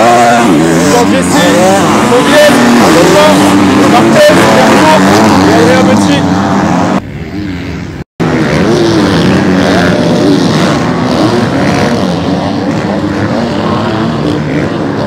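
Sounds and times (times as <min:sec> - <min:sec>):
motocross bikes revving past: 0:00.0 - 0:15.0.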